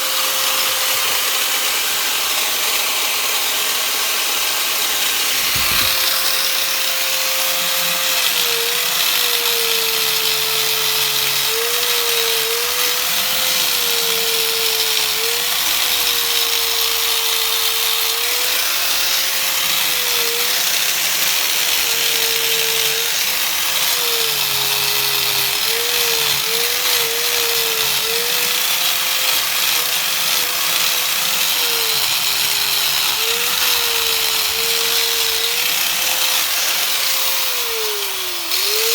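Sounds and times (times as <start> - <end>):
angle grinder motor whine: 0.0 - 38.9
grinding wheel hissing on metal: 0.0 - 38.9.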